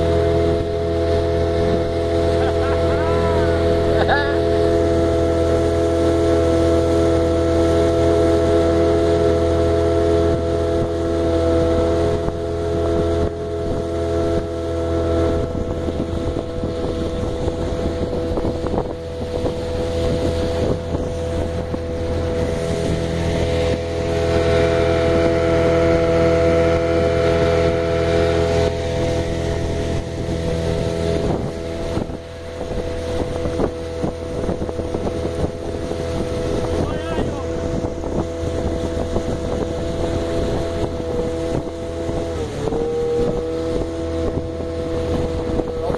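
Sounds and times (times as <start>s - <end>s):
boat motor droning: 0.0s - 45.9s
wind buffeting microphone: 0.0s - 45.9s.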